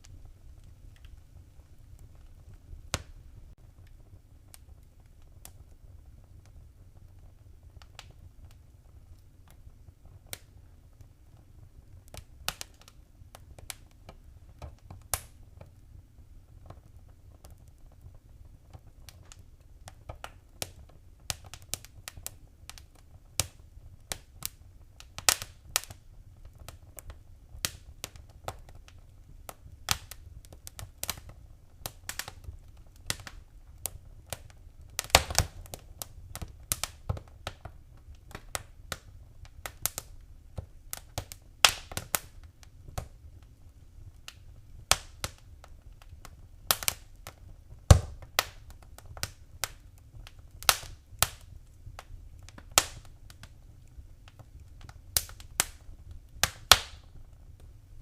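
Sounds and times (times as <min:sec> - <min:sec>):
low rumble of flames: 0:00.0 - 0:58.0
wood fire pops and snaps: 0:00.0 - 0:58.0.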